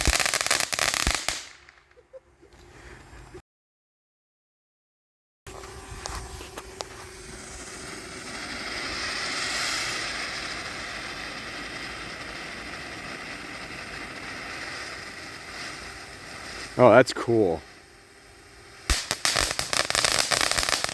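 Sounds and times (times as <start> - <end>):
firework fountain hissing: 0.0 - 2.1, 5.6 - 20.9.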